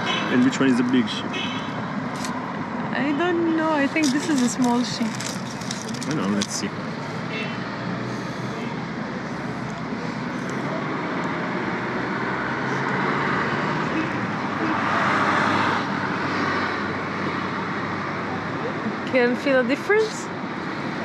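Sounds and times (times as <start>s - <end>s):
road vehicles passing: 0.0s - 21.0s.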